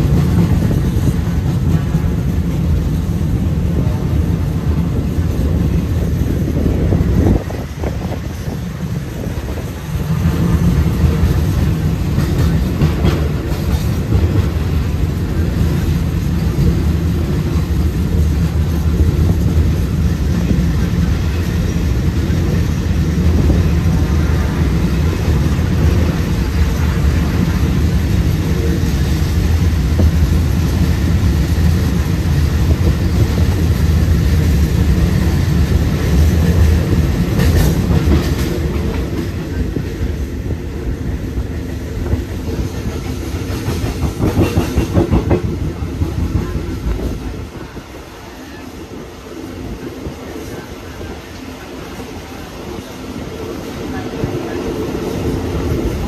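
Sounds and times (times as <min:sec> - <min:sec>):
train wheels clacking: 0:00.0 - 0:47.9
train rumbling on rails: 0:00.0 - 0:56.0.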